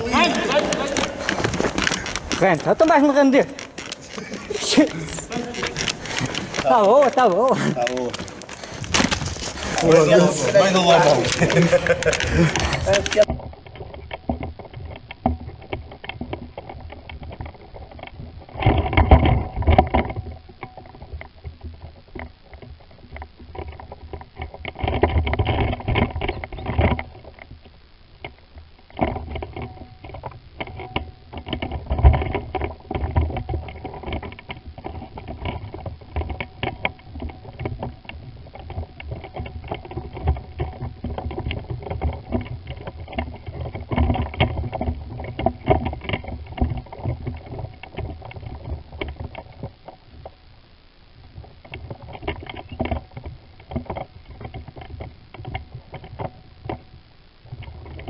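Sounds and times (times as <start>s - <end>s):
crackling and rustling: 0.0s - 58.0s.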